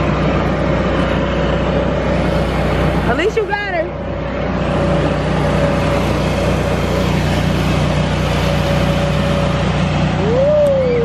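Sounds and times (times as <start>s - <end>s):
electric blower fan drone: 0.0s - 11.0s.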